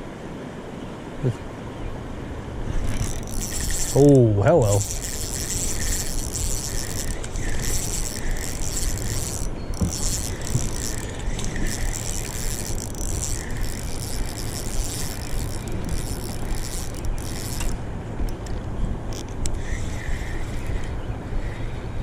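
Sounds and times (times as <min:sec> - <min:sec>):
fishing reel ratcheting and whirring: 0:02.8 - 0:21.6.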